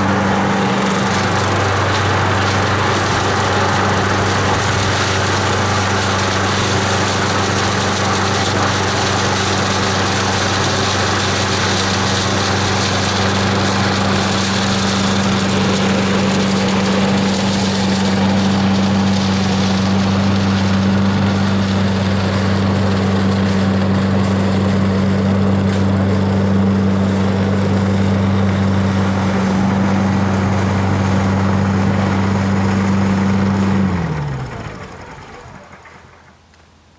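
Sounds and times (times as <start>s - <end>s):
engine winding down: 0.0s - 36.5s
garden vacuum engine running: 0.0s - 36.5s.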